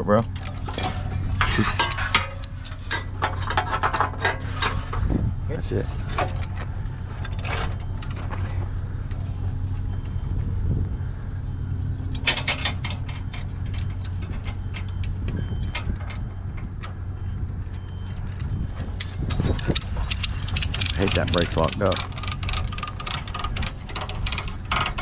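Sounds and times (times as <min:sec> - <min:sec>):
metal clanks and rattles: 0:00.0 - 0:10.6, 0:11.8 - 0:25.0
vehicle engine running: 0:00.0 - 0:25.0.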